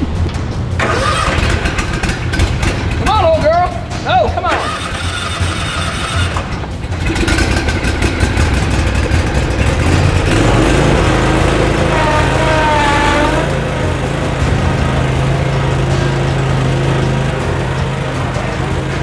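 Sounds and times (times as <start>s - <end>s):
riding mower engine running: 0.0s - 19.0s.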